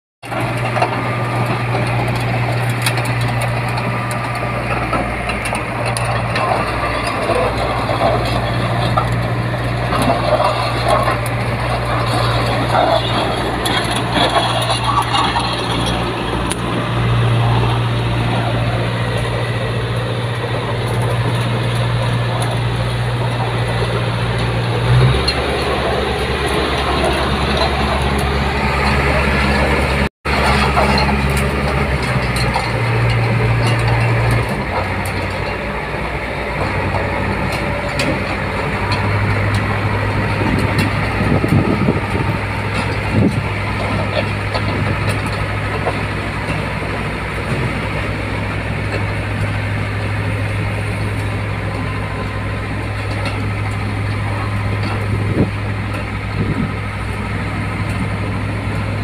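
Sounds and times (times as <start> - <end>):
diesel engine running: 0.2 - 59.0
steel tracks clattering: 0.2 - 59.0.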